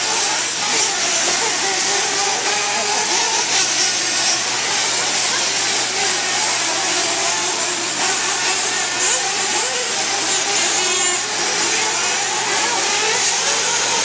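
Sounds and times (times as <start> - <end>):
rc buggy engines revving: 0.0 - 14.0.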